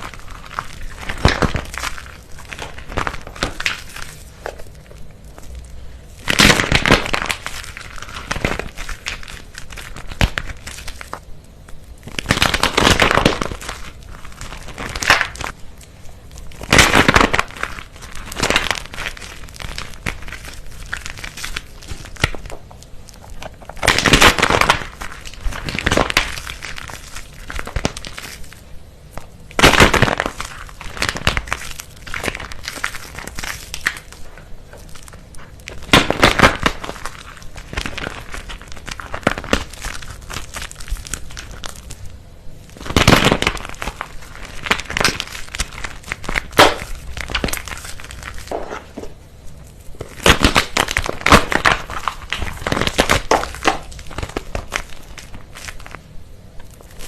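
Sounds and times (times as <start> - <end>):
dried soap crisps crunching: 0.0 - 57.0.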